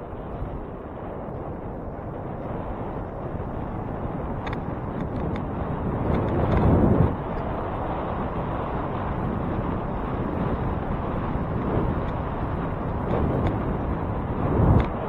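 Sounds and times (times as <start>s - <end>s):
bicycle road rumble: 0.0s - 15.0s
wind while cycling: 0.0s - 15.0s.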